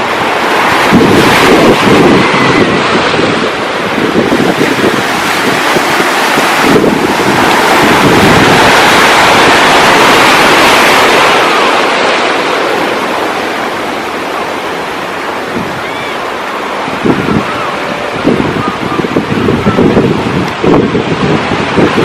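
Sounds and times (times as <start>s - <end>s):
ocean wave breaking: 0.0s - 22.0s
wind noise on microphone: 0.0s - 22.0s.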